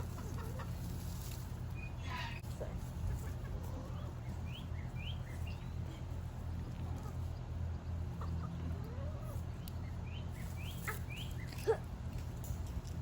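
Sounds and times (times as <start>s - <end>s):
chickens clucking: 0.0s - 13.0s
steady low rumble: 0.0s - 13.0s.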